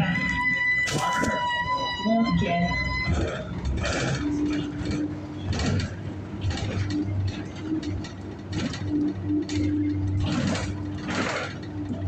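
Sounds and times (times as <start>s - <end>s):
bus interior rattling and clicking: 0.0s - 12.0s
bus low running hum: 0.0s - 12.0s.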